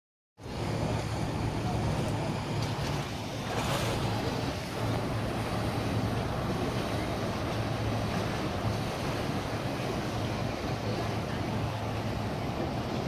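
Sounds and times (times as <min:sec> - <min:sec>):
boat engine humming: 0:00.4 - 0:13.0
water noise: 0:00.4 - 0:13.0.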